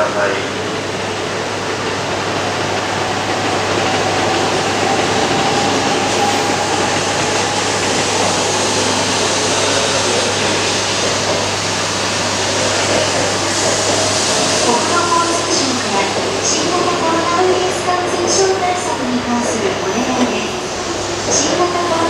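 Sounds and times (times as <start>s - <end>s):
train blowers hissing and humming: 0.0s - 22.0s.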